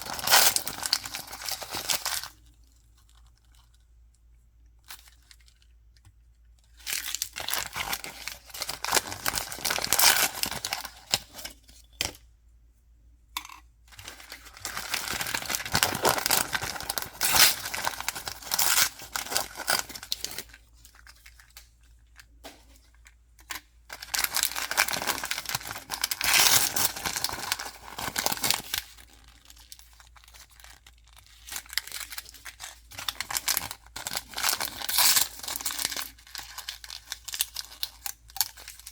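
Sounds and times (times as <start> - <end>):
packaging torn and crinkled: 0.0 - 3.8, 6.7 - 11.5, 14.0 - 21.7, 23.9 - 38.9.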